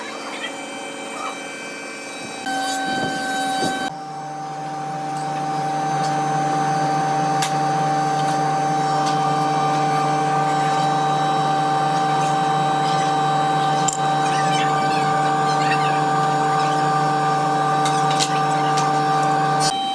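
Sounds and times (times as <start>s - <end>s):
power tool motor whine: 0.0s - 19.9s.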